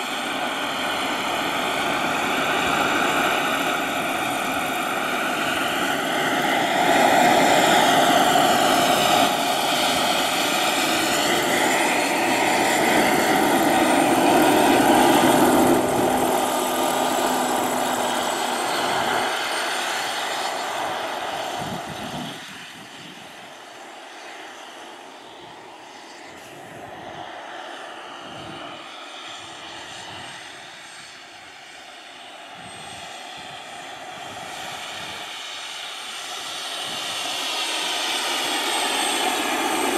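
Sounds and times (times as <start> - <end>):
model helicopter engine and rotor: 0.0 - 39.9.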